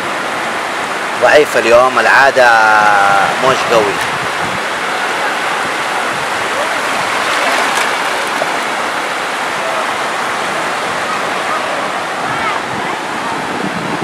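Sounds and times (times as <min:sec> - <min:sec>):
ocean surf washing up shallows: 0:00.0 - 0:14.0.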